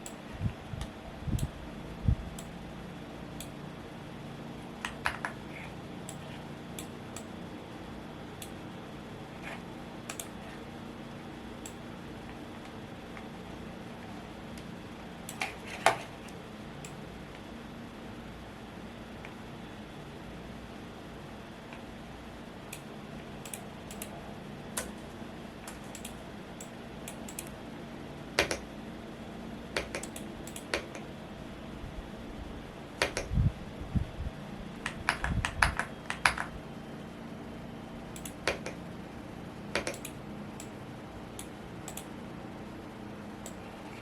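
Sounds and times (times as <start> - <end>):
fan hum: 0.0 - 44.0.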